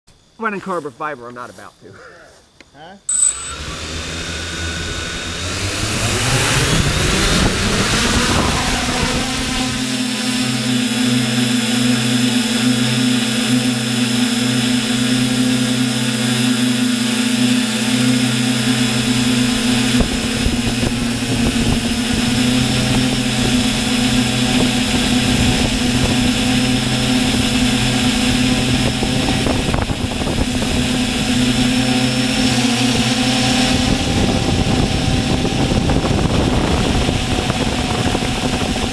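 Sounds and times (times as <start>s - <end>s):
drone motors whining: 3.1s - 38.9s.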